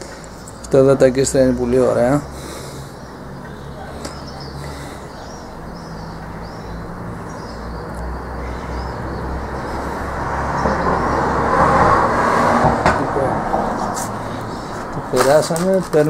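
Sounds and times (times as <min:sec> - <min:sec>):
motor vehicle passing: 0:00.0 - 0:16.0.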